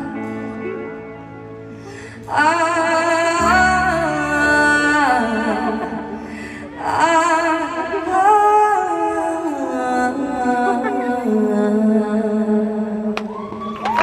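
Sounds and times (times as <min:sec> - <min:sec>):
woman singing into microphone: 0:00.0 - 0:00.9, 0:02.0 - 0:13.5
band backing music: 0:00.0 - 0:14.0.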